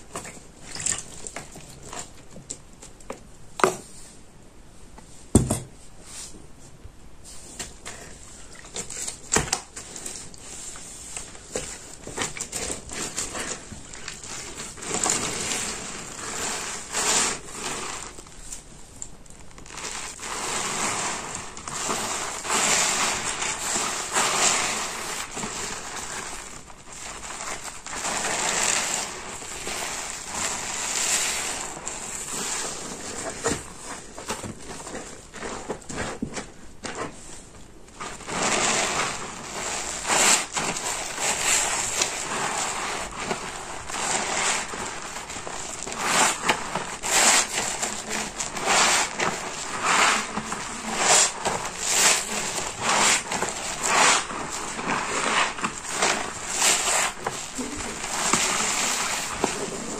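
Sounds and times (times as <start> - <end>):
wet sponge squelching: 0.0 - 2.3, 7.5 - 18.5, 19.6 - 37.2, 38.0 - 59.9.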